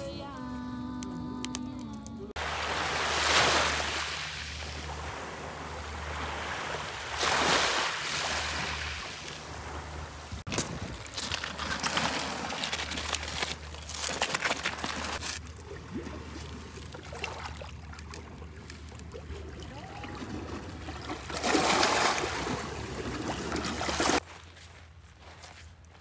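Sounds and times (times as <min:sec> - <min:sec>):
seawater washing among rocks: 0:02.4 - 0:24.2.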